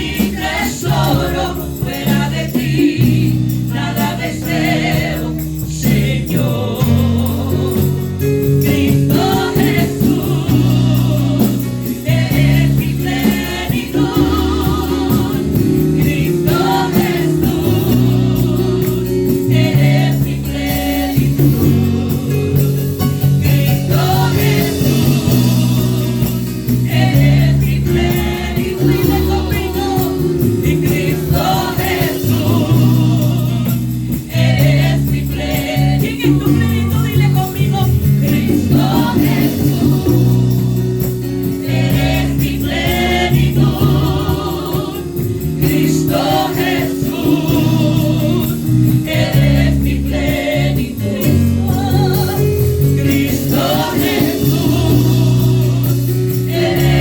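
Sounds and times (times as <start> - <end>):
band accompaniment: 0.0 - 57.0
group singing worship song: 0.0 - 57.0.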